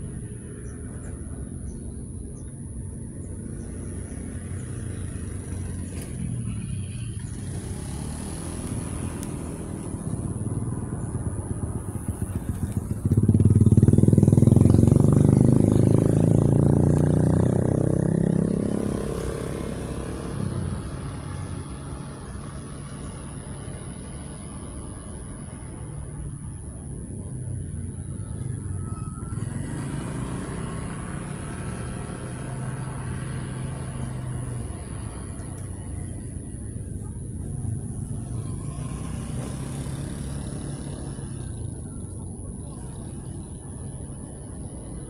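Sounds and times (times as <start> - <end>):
vehicle engine passing: 3.0 - 45.0.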